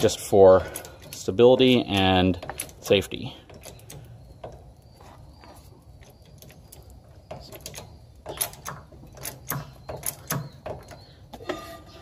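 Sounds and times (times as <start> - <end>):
metallic clicks and clanks: 0.0 - 4.8, 6.0 - 12.0.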